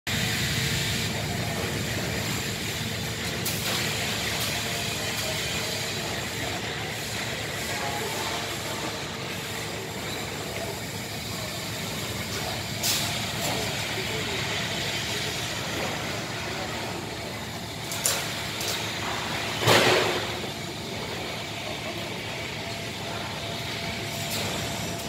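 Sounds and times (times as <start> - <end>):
machinery hum and hiss: 0.1 - 25.0.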